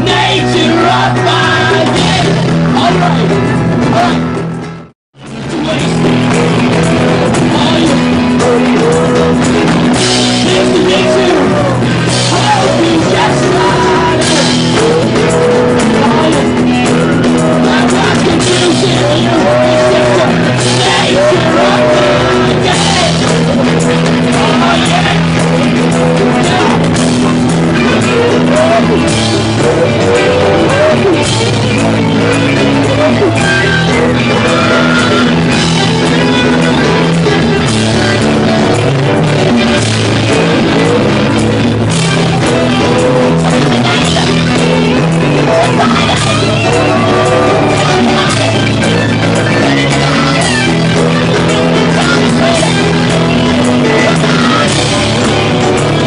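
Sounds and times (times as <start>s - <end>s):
man singing: 0.0s - 4.4s, 5.3s - 56.0s
bass guitar: 0.0s - 56.0s
drums: 0.0s - 56.0s
electric guitar: 0.0s - 56.0s.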